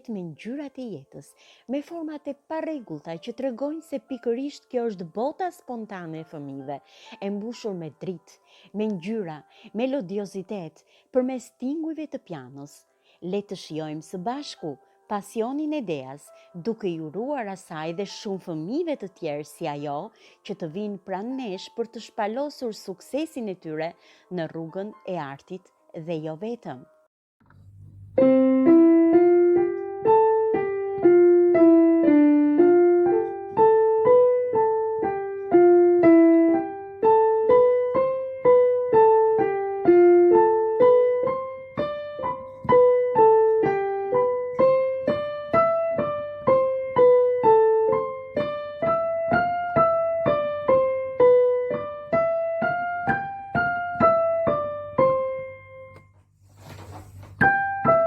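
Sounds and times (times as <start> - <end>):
piano melody: 1.8 - 12.8, 13.4 - 26.2, 26.8 - 56.4, 57.3 - 58.0.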